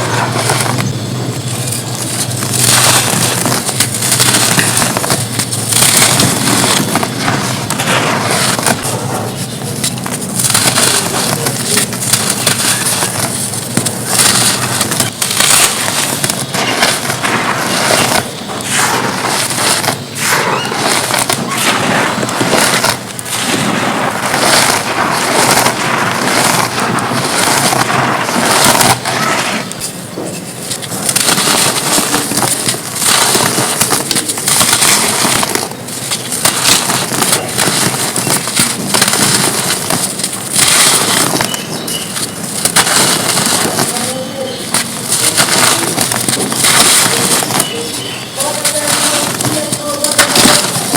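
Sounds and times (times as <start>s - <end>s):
dirt crunching and crumbling: 0.0s - 50.9s.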